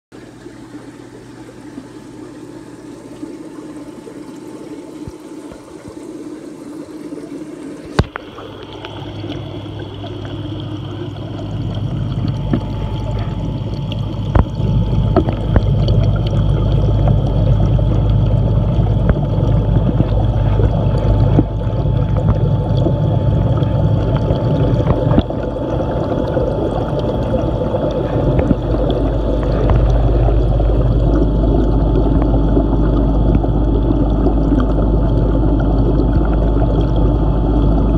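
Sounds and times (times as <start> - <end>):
faint steady hum: 0.1 - 37.9
water trickling and splashing: 0.1 - 37.9
muffled underwater rumble: 0.2 - 37.9.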